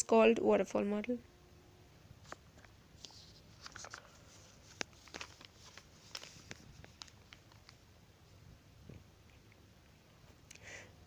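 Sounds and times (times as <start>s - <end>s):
soft room hiss: 0.0s - 11.0s.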